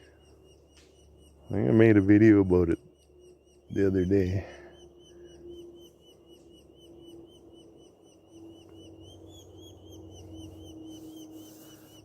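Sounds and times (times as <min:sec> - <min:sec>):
nestling birds chirping: 0:00.0 - 0:12.0.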